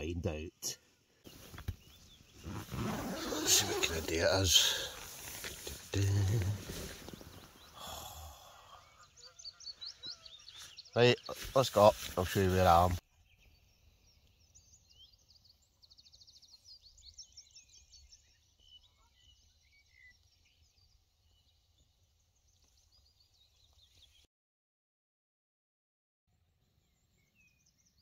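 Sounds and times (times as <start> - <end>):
songbirds chirping: 0.0 - 24.3, 26.3 - 28.0.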